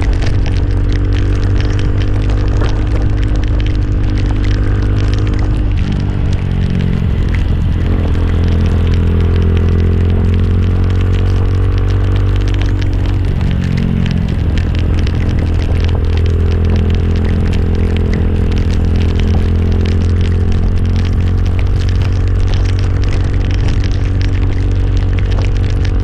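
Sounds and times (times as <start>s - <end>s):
motorcycle engine running: 0.0s - 26.0s
small clicks and crackles: 0.0s - 26.0s.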